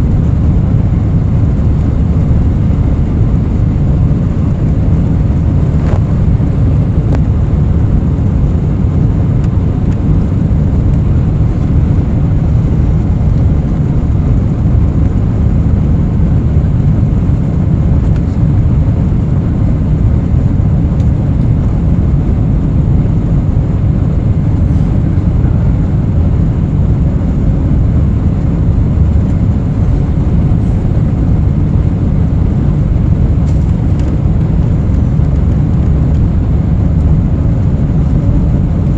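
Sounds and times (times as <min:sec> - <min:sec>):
jet engines cabin rumble: 0:00.0 - 0:38.9.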